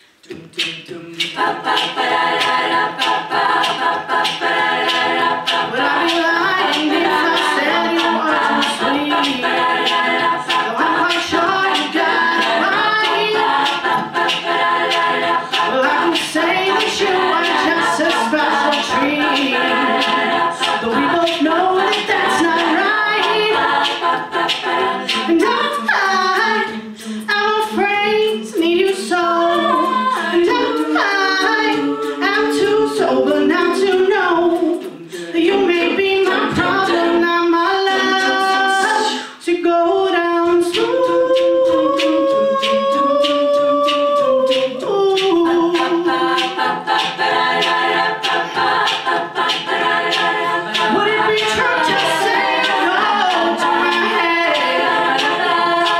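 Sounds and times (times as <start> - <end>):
female a cappella group singing: 0.0 - 55.9.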